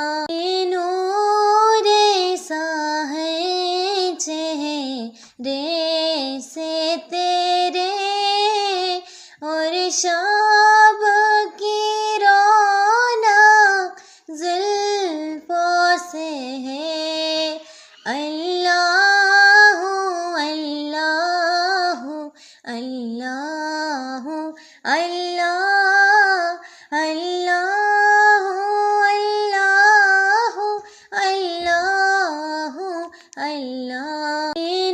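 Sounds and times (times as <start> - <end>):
person singing devotional song: 0.0 - 34.9.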